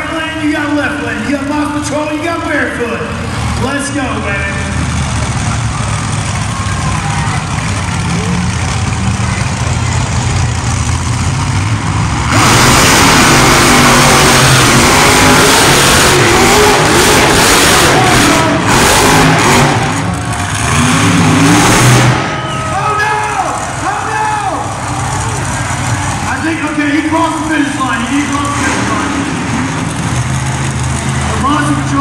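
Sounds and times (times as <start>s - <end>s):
monster truck engines: 0.0s - 32.0s.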